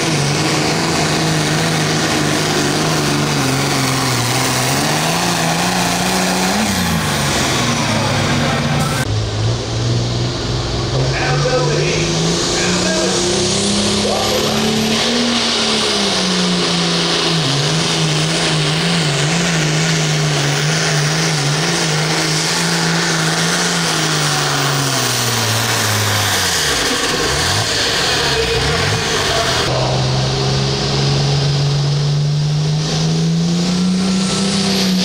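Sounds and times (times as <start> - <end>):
diesel tractor engine at full throttle: 0.0 - 35.0.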